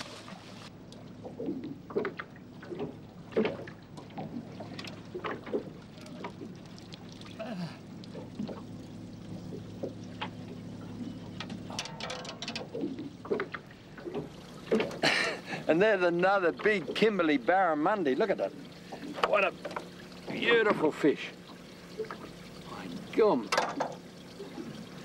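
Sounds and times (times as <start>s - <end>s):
low hum: 0.0s - 25.0s
water splashing and dripping: 0.0s - 25.0s.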